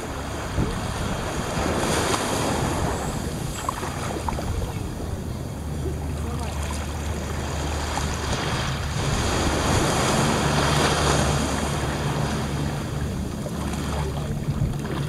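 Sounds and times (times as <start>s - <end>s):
small waves washing up sand: 0.0s - 15.0s
wind on microphone: 0.0s - 15.0s.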